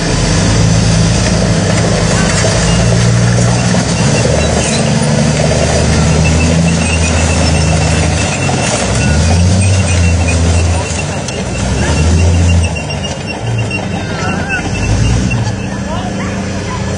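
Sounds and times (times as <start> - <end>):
tank engine running hard: 0.0 - 16.9.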